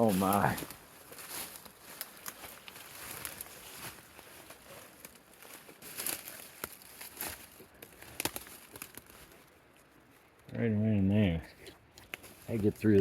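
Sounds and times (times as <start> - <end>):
twigs snapping: 0.0 - 9.8, 11.9 - 12.5
leaves and brush rustling: 0.0 - 10.5, 11.5 - 13.0.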